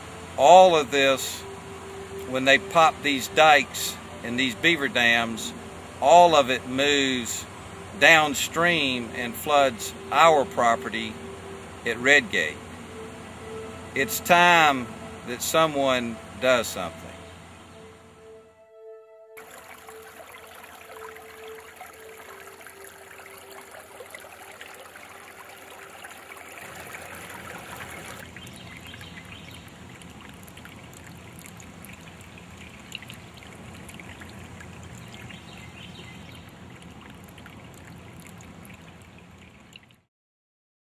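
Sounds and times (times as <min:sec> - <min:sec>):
floodwater running in a canal: 0:00.0 - 0:18.2, 0:19.4 - 0:40.1.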